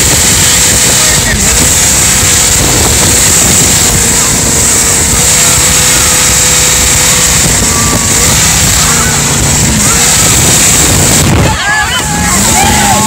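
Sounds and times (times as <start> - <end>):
jet boat engine drone: 0.0 - 13.0
wake rushing: 0.0 - 13.0.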